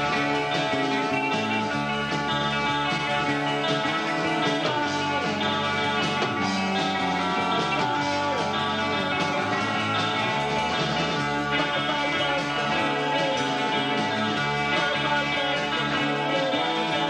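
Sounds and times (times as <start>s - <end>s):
electric guitar bending notes: 0.0s - 17.0s
live rock band playing: 0.0s - 17.0s.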